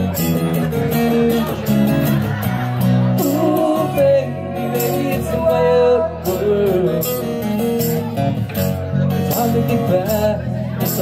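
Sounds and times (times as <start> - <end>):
guitars playing chords: 0.0 - 11.0
man singing: 0.0 - 11.0.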